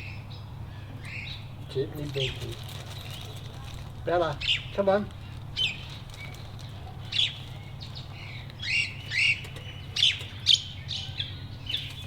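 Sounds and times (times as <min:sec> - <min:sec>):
magpies calling: 0:00.7 - 0:12.0.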